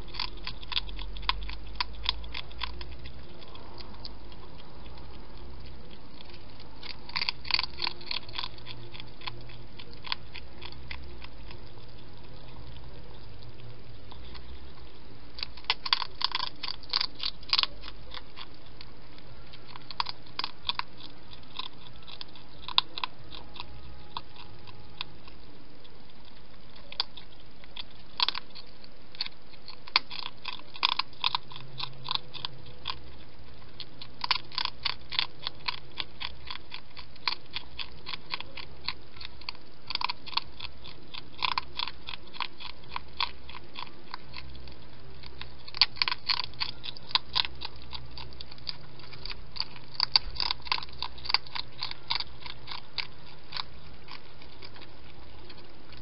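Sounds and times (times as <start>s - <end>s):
hedgehog crunching food: 0.0s - 56.0s.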